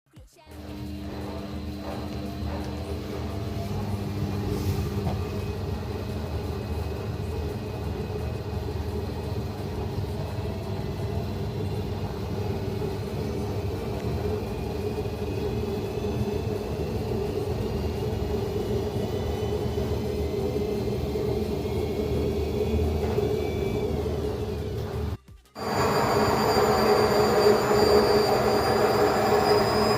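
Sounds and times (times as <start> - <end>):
faint rising whine: 0.7 - 29.9.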